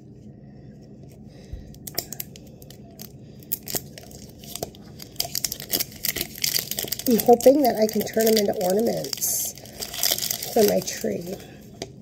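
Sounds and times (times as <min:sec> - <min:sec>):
plastic wrap crinkling and tearing: 0:01.1 - 0:12.0.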